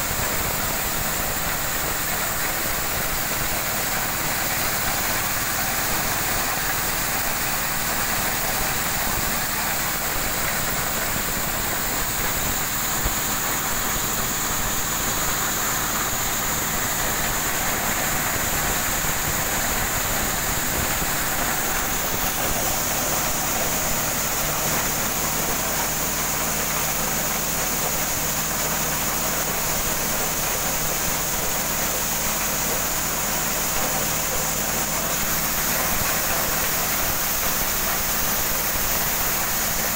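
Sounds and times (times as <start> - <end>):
corn kernels pouring down chute: 0.0 - 39.9
corn sheller engine running: 0.0 - 39.9.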